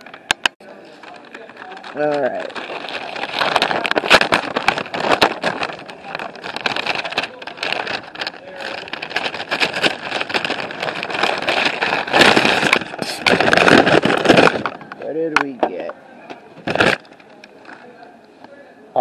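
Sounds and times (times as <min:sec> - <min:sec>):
packaging rustled and torn: 0:00.7 - 0:15.0, 0:16.6 - 0:17.8.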